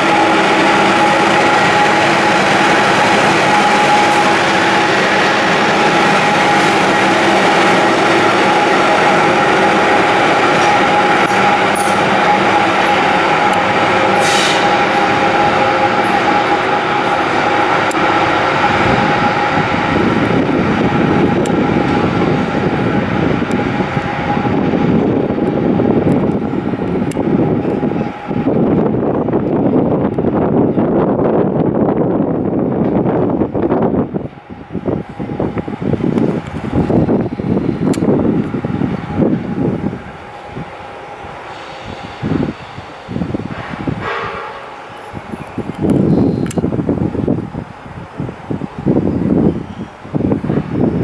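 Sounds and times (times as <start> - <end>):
train equipment whine: 0.0 - 51.0
train wheels rolling: 0.0 - 51.0.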